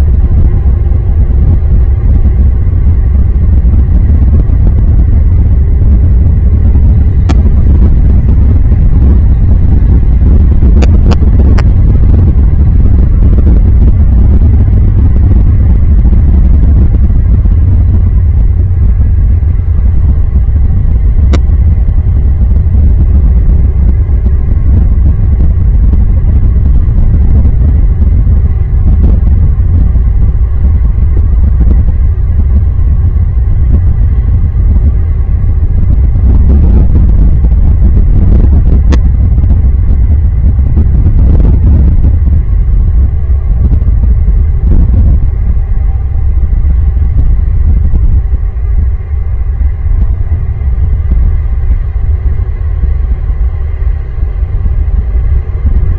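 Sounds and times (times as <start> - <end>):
loud low rumble: 0.0 - 55.9.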